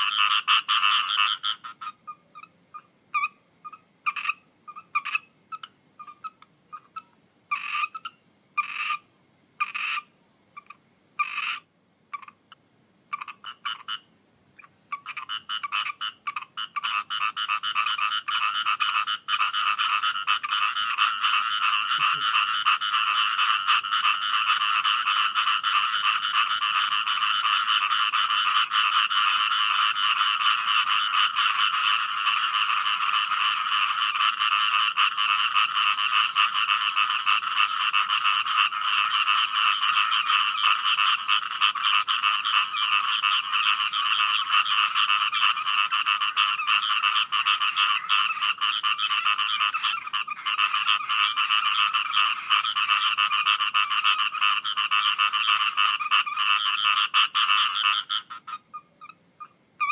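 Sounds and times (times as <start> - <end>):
frogs croaking: 0.0 - 59.9.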